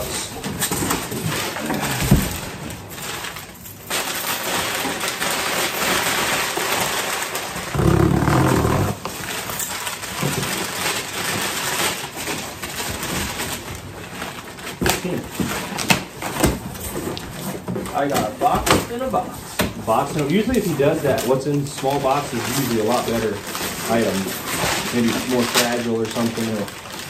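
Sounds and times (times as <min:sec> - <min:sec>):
paper rustling and crackling: 0:00.0 - 0:27.0.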